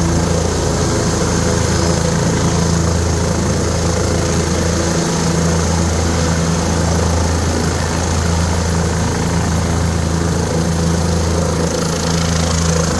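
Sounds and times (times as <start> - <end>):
helicopter idling: 0.0 - 12.9.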